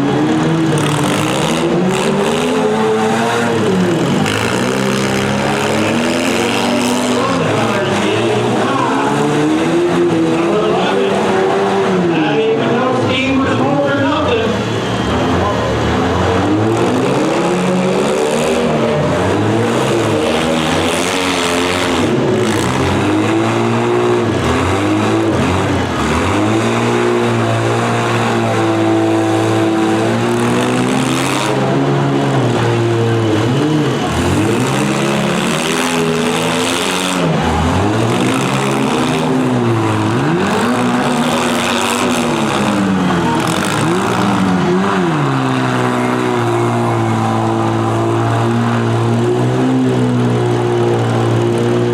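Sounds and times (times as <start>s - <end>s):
car engines revving: 0.0s - 51.9s.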